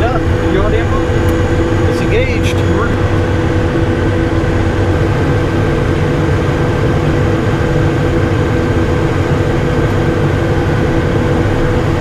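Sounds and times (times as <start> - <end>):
constant engine whine: 0.0 - 12.0
jet engines and airflow rumbling: 0.0 - 12.0.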